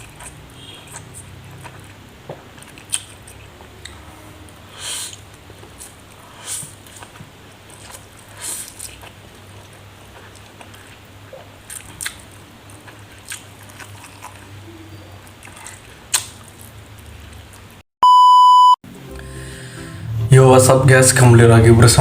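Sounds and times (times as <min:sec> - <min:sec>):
chewing: 0:00.0 - 0:17.8.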